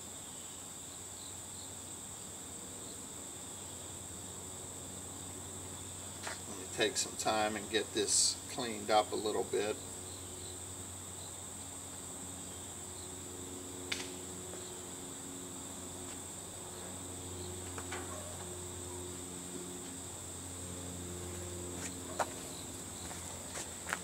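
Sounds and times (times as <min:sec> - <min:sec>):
insect chorus trilling: 0:00.0 - 0:24.0
low steady hum: 0:00.0 - 0:24.0.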